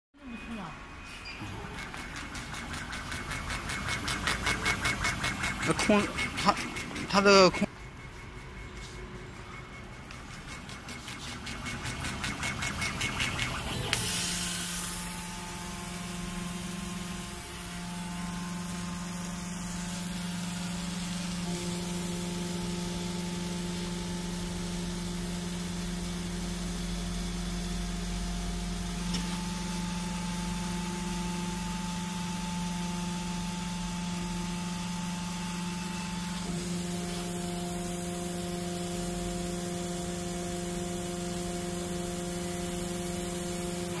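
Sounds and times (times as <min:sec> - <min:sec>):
laser cutter hum and hiss: 0:00.6 - 0:44.0
machine motor whines: 0:01.1 - 0:44.0.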